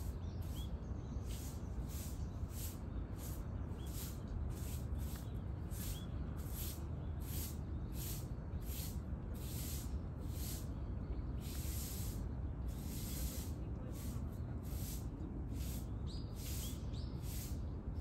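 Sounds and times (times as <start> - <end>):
soft hissing swishes: 0.0 - 10.8, 11.4 - 17.7.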